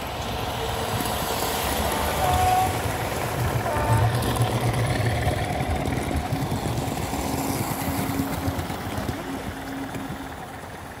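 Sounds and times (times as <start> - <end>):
model train wheels rumbling on rail: 0.0 - 11.0.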